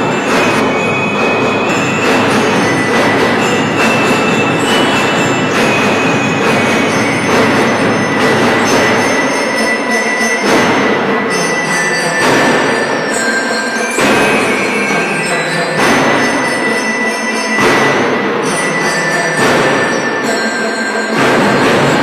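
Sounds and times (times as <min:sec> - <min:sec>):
bell lyres ringing: 0:00.0 - 0:22.0
marching drums: 0:00.0 - 0:22.0.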